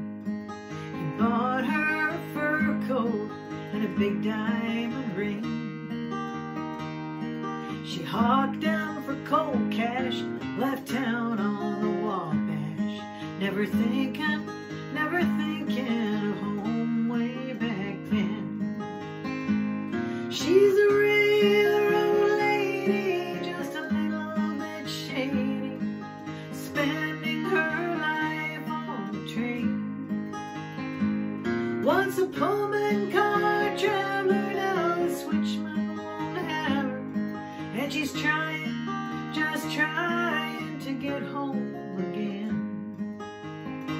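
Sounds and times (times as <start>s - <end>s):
acoustic guitar picking: 0.0s - 43.9s.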